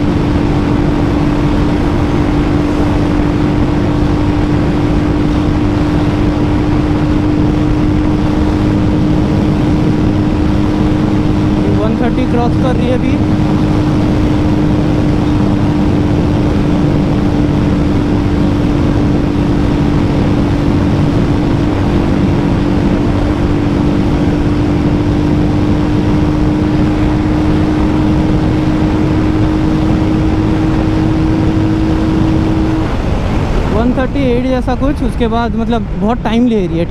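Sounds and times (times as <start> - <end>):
motorcycle engine drone: 0.0 - 36.9
road noise: 0.0 - 36.9
wind rush: 0.0 - 36.9.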